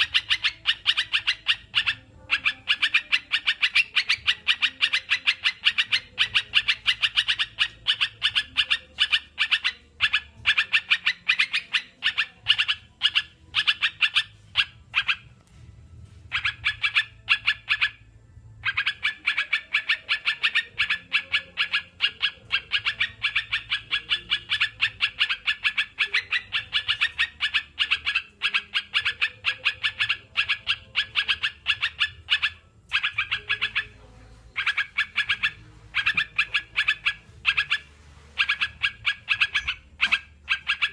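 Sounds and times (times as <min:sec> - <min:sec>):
bird chattering: 0:00.0 - 0:15.2, 0:16.3 - 0:40.9.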